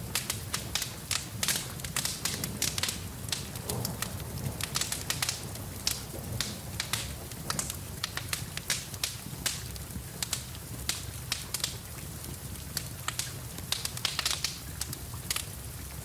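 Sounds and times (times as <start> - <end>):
hiss of rain: 0.0 - 16.0
wood fire crackling: 0.0 - 16.0.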